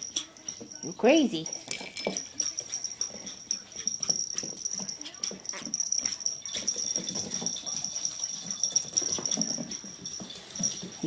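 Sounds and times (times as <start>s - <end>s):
paws scrabbling on hardwood: 1.4s - 11.0s.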